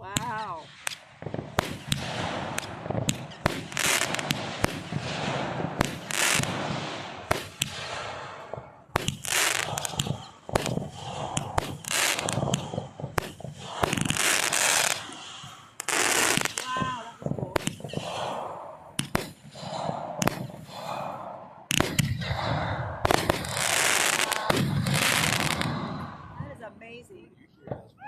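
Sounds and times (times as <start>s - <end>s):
crackling hissing firework bursts: 0.0s - 26.4s
fireworks bangs: 0.0s - 28.0s.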